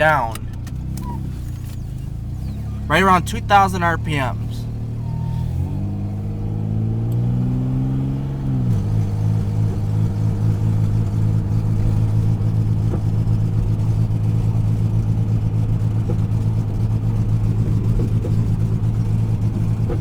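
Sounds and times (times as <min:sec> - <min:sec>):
car engine under hard throttle: 0:00.0 - 0:20.0.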